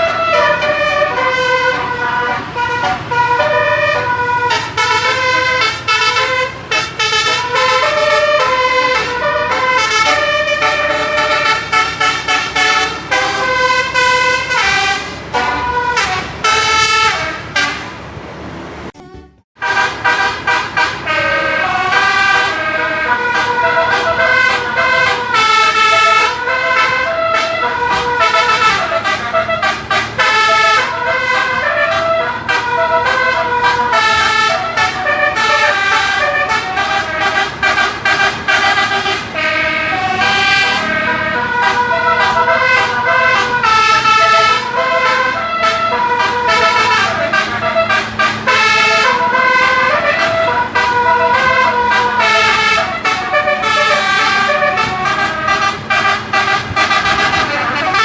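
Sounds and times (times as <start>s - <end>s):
bus horn playing melodies: 0.0s - 58.0s.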